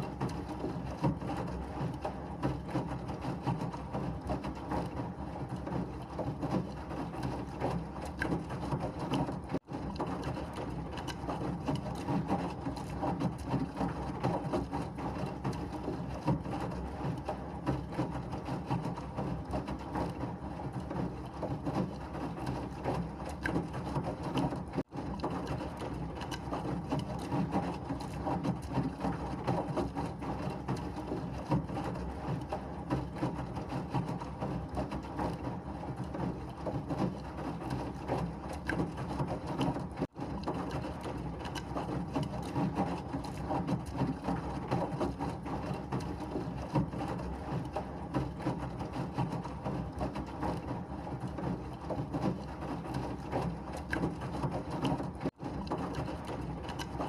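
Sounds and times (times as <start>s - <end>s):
washing machine churning hum: 0.0s - 57.0s.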